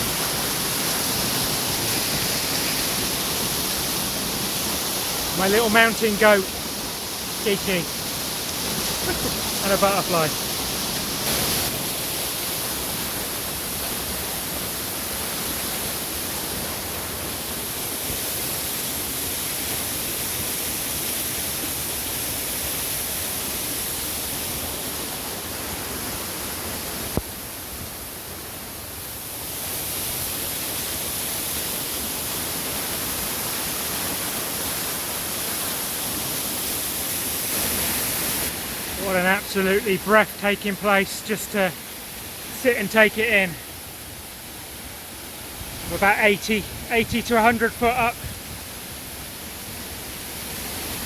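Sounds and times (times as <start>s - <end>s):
waterfall rushing: 0.0s - 27.2s, 29.3s - 51.0s.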